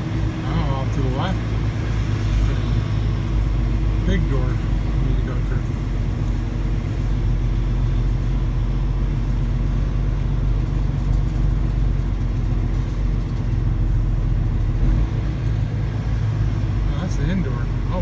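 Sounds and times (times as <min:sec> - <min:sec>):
truck diesel engine humming: 0:00.0 - 0:18.0.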